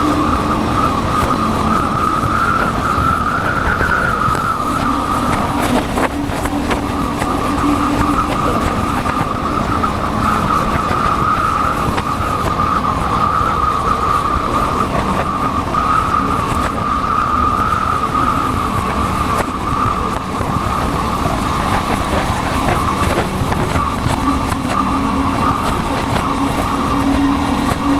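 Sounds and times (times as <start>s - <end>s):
wind rush: 0.0s - 27.9s.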